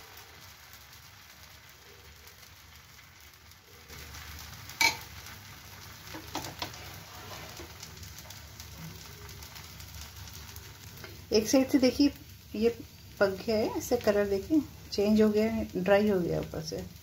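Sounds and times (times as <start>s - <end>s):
batter sizzling on a griddle: 0.0s - 17.0s.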